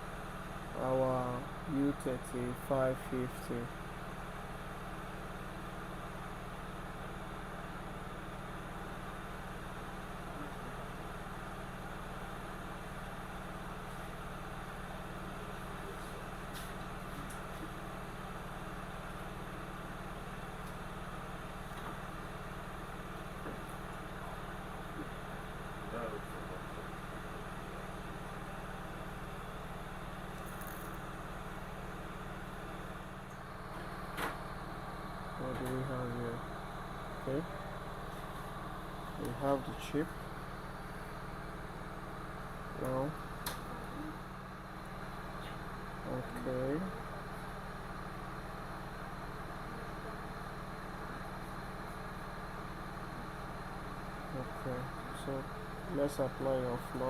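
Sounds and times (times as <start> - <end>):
hot air blower humming and hissing: 0.0 - 57.0.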